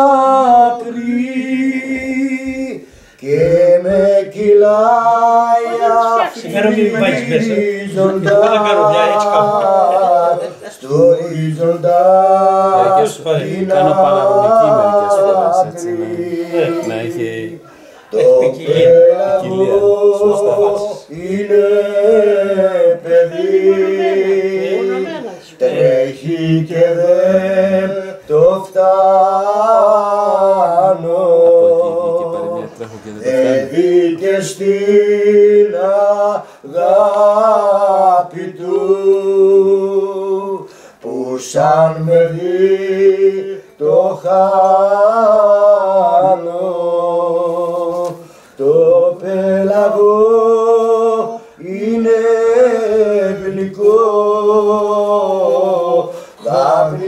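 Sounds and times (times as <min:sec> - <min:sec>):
men singing unaccompanied: 0:00.0 - 0:57.0.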